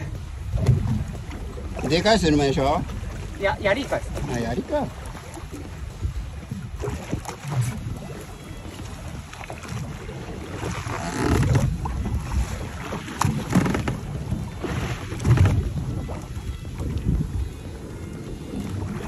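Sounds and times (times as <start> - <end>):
water washing around boat: 0.0 - 19.0
wind buffeting microphone: 0.0 - 19.0.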